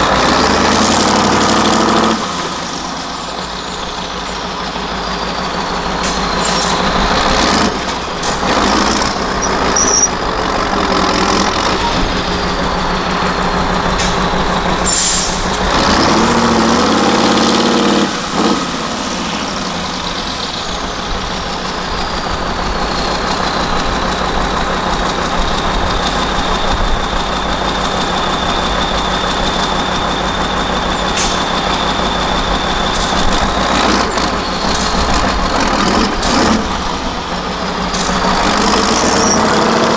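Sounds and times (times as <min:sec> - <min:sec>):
truck diesel engine revving: 0:00.0 - 0:39.9.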